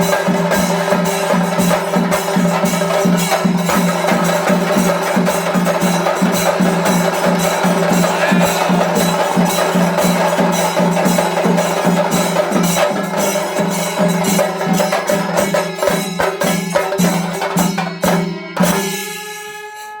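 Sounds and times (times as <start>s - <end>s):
drums beaten in fast strokes: 0.0s - 18.9s.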